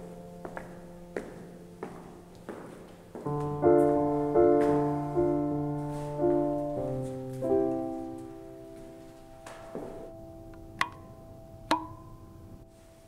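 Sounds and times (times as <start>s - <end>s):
sustained piano chords: 0.0s - 13.0s.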